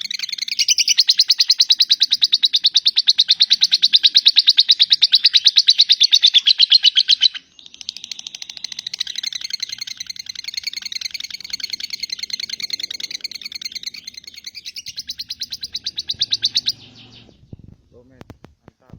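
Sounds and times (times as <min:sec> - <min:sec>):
lovebird chattering trill: 0:00.0 - 0:17.4.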